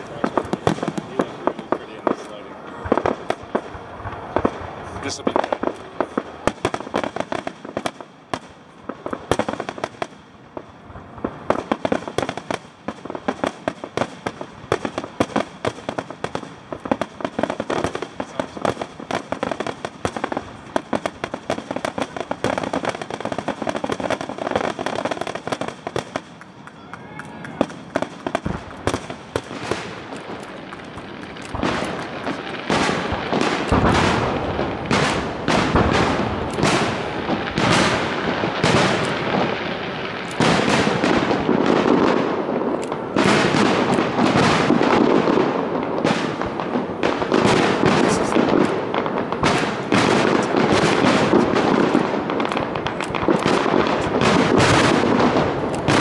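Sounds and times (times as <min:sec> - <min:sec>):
fireworks bursting: 0:00.0 - 0:56.0
fireworks crackle: 0:00.0 - 0:56.0.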